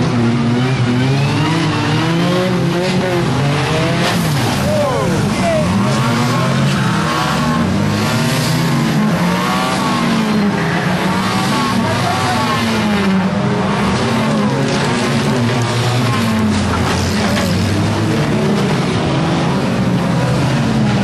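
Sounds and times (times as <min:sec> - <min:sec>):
racing car engines running hard: 0:00.0 - 0:21.0.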